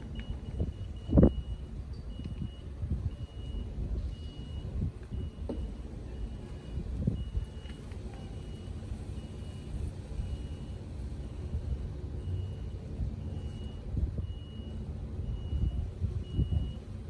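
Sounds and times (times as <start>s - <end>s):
low engine rumble: 0.0s - 17.0s
reversing alarm beeping: 0.0s - 17.0s.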